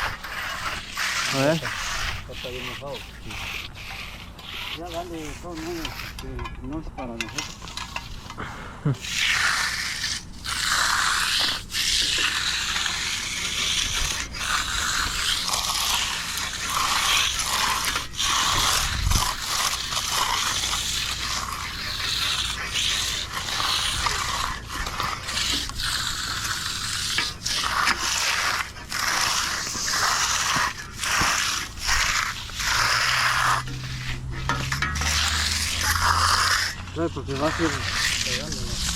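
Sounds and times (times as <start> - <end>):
hand tools scraping wet concrete: 0.0 - 38.9.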